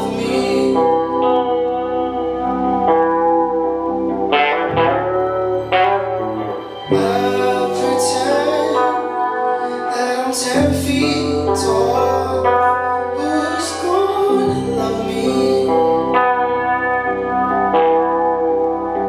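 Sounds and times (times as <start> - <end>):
electric guitar: 0.0 - 19.0
sustained bass notes: 0.0 - 19.0.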